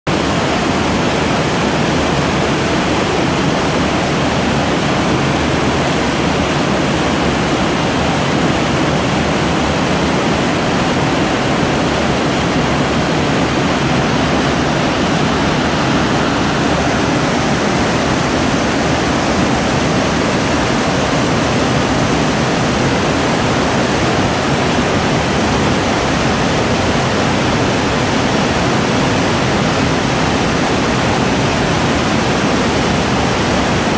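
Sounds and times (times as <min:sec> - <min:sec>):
whitewater cascade rushing: 0:00.1 - 0:33.9.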